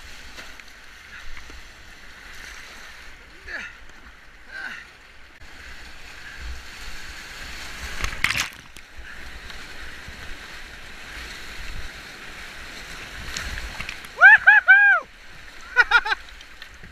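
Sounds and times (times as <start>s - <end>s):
whitewater rushing and splashing: 0.0s - 16.9s.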